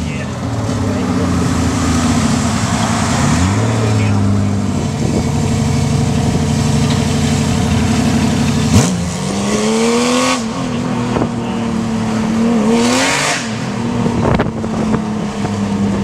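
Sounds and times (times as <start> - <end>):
race car engine running at low revs: 0.0 - 16.0.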